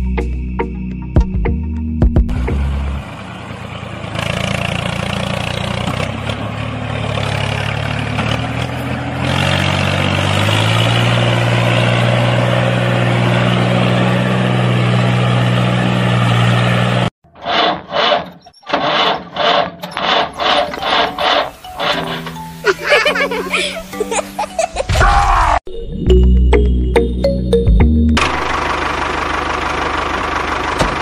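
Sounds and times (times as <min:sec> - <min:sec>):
tractor engine running: 0:00.0 - 0:24.7, 0:26.1 - 0:31.0.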